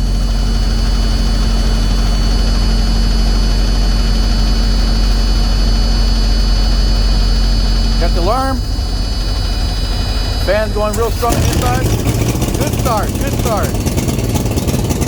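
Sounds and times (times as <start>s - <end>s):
faint high whine: 0.0s - 14.6s
diesel engine running: 0.0s - 15.0s.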